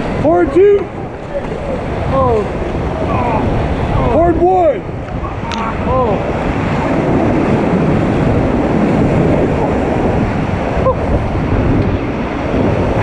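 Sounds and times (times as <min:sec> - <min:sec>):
whitewater rapids rushing: 0:00.0 - 0:13.0
wind noise on microphone: 0:00.0 - 0:13.0.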